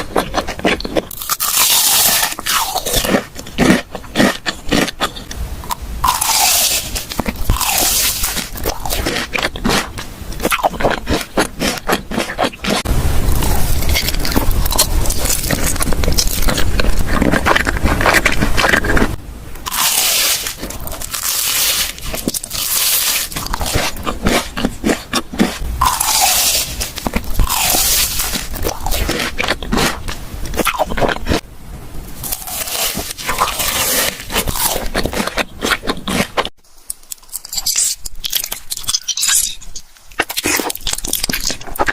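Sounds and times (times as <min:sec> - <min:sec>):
crunchy bites and chewing: 0:00.0 - 0:31.5, 0:32.2 - 0:41.9
crisp crackling: 0:06.0 - 0:31.4, 0:32.2 - 0:41.9.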